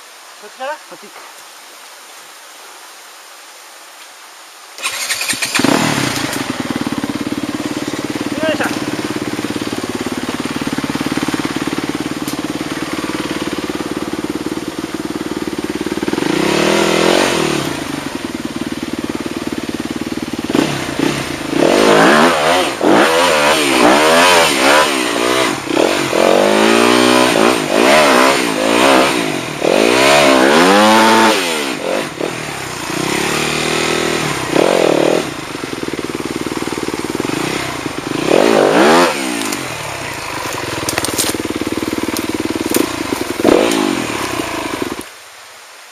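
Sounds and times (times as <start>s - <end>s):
motorcycle engine revving: 4.8s - 45.1s.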